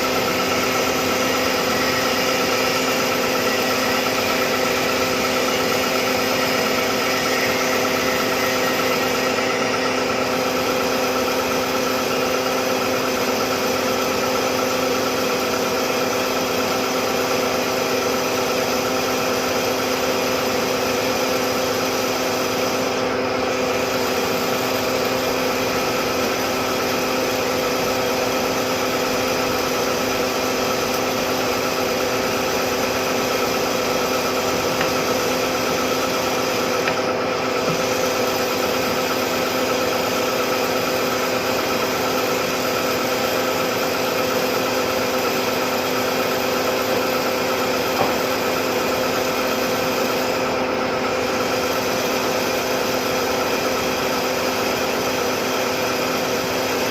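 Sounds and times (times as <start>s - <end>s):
metalworking machine hum: 0.0s - 56.9s.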